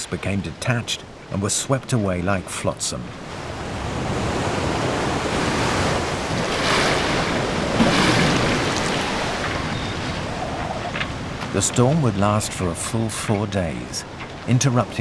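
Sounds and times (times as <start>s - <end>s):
heavy waves crashing: 0.0s - 15.0s
wind: 0.0s - 15.0s.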